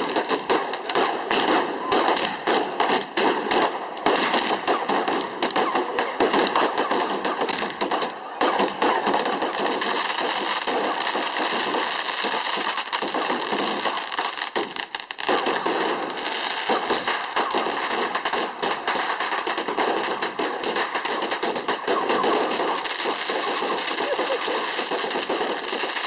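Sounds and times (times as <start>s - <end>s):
fireworks crackling bangs: 0.0s - 26.0s.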